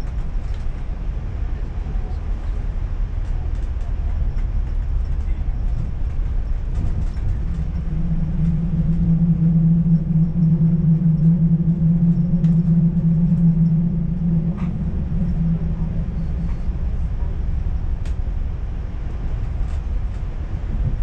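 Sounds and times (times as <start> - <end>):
steady low hum: 0.0 - 21.0
train wheels rumbling on rails: 0.0 - 21.0.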